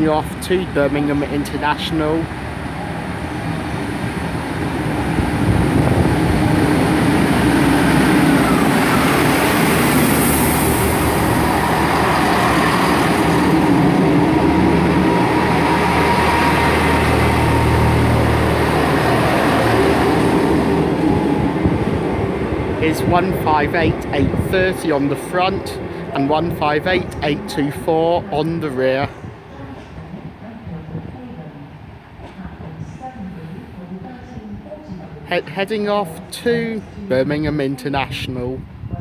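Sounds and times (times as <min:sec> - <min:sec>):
diesel train engines droning: 0:00.0 - 0:37.4.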